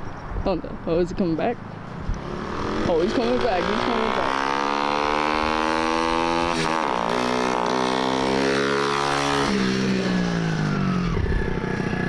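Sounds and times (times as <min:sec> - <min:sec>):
dirt bike engine running: 0:02.2 - 0:12.0.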